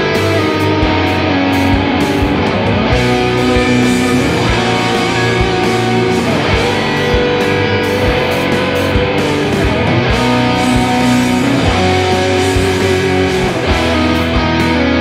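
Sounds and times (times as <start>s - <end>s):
progressive metal music: 0.0s - 15.0s.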